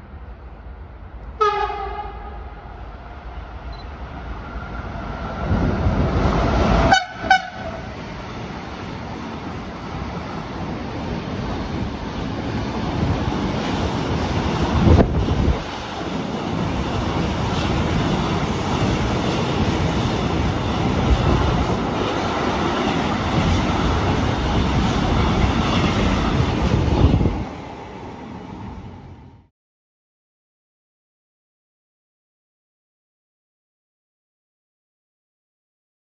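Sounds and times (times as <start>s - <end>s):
freight train wheels rumbling: 0.0s - 29.5s.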